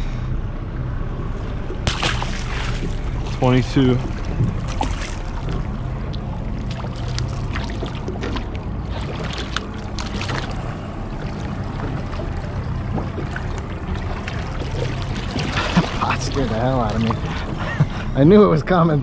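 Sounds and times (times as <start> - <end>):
boat motor humming: 0.0 - 19.0
water splashing against hull: 1.1 - 18.8
fish thrashing at surface: 1.7 - 17.8.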